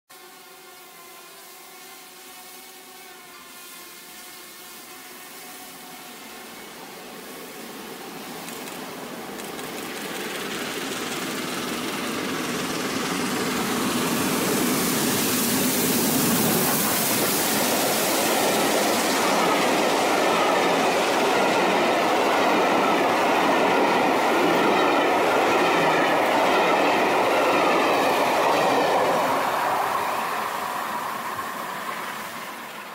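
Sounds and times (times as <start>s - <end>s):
steam train passing: 0.2s - 32.9s.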